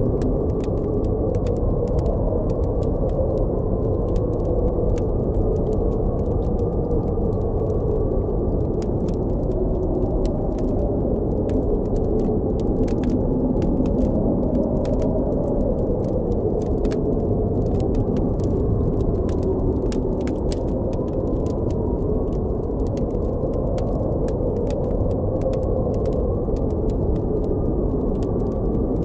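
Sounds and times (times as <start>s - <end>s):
blizzard wind howling: 0.0s - 29.0s
campfire crackling and popping: 0.0s - 29.0s.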